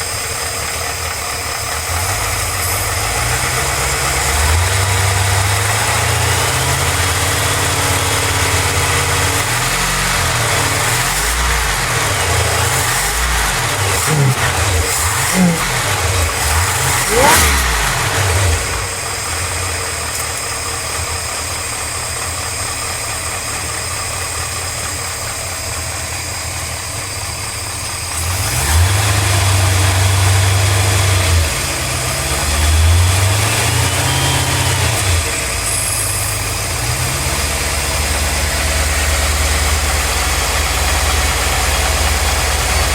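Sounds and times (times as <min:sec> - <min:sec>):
engine revving and idling: 0:00.0 - 0:42.9.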